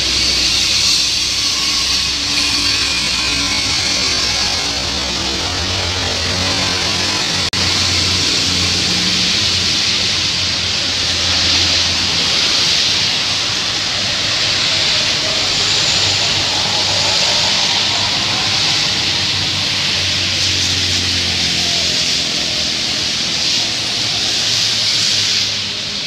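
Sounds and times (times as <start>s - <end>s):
passing vehicle engines humming: 0.0s - 26.0s
tyres on wet asphalt: 0.0s - 26.0s
heavy rain: 2.9s - 26.0s.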